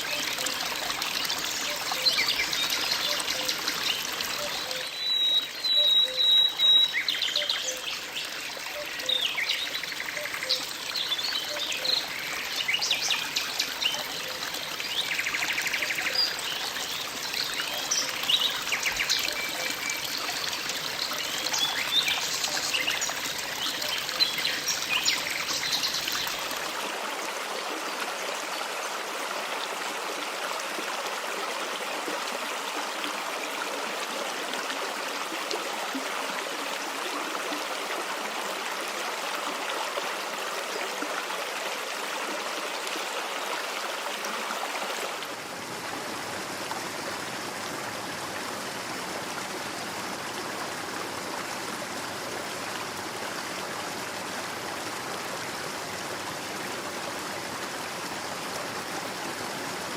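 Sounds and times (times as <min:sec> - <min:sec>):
stream rushing and trickling: 0:00.0 - 0:59.9.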